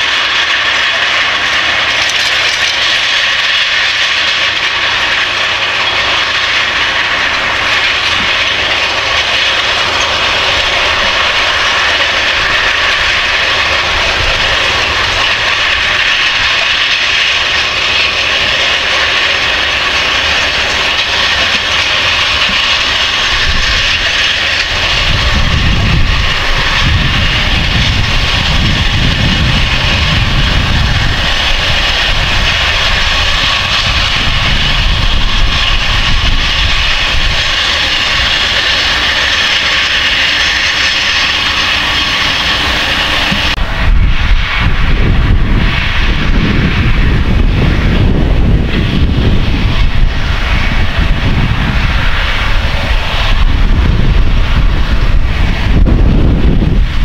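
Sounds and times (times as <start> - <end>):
heavy uneven low rumble: 0.0 - 57.0
tractor diesel engine running: 0.0 - 57.0.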